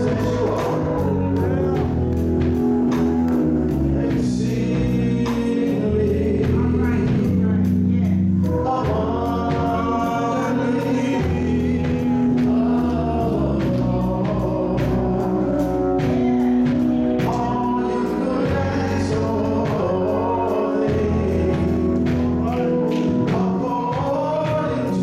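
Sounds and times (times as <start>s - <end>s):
gospel choir singing: 0.0s - 25.0s
instrumental accompaniment: 0.0s - 25.0s.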